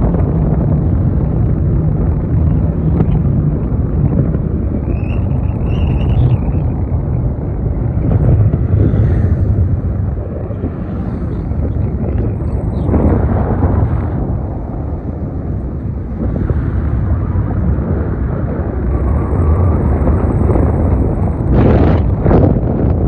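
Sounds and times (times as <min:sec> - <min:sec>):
engine and road rumble: 0:00.0 - 0:23.0
wind buffeting microphone: 0:00.0 - 0:23.0.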